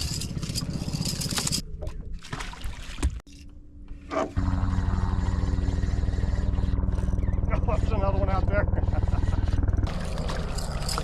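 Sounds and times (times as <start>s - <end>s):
outboard motor running: 0.0s - 2.2s, 3.8s - 11.0s.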